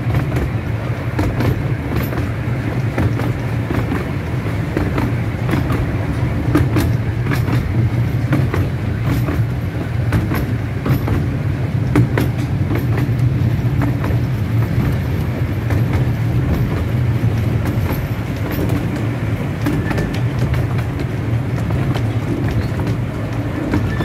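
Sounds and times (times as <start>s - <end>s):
miniature train rumbling: 0.0s - 24.0s
wheels clicking over rails: 0.0s - 24.0s.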